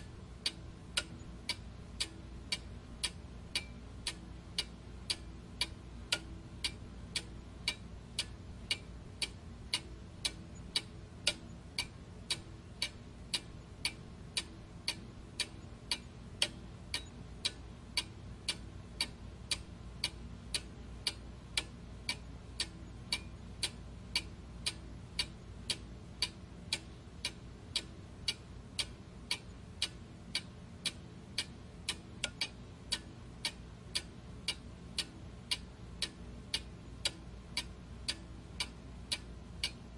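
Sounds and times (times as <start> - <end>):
faint low hum: 0.0 - 39.9
steady ticking: 0.0 - 39.9.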